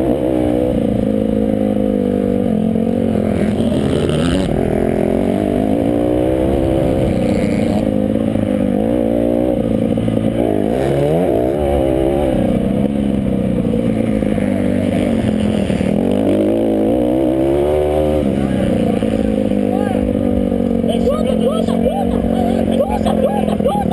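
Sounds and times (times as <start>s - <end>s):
motorcycle engines revving: 0.0s - 23.9s.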